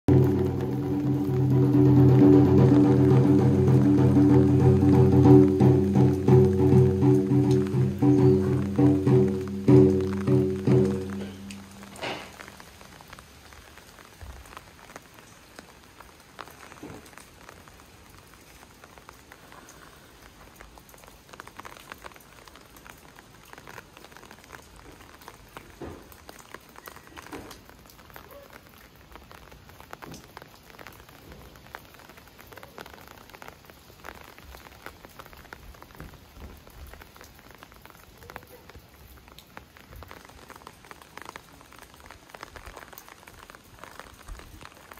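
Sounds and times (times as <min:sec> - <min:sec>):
rain falling: 0:00.0 - 0:44.9
raindrops spattering: 0:00.0 - 0:44.9.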